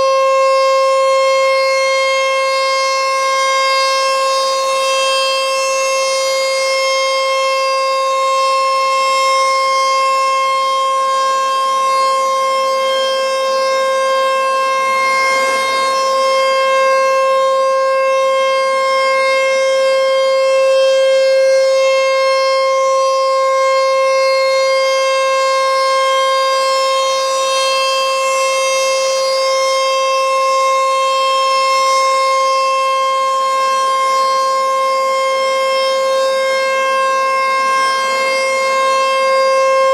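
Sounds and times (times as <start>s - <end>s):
siren steady wail: 0.0s - 39.9s.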